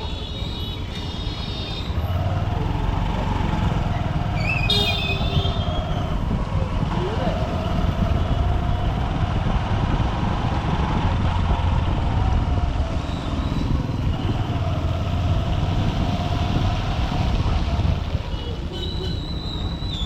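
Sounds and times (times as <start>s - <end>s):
city traffic noise: 0.0s - 20.0s
motorcycle engine rumble: 0.9s - 20.0s.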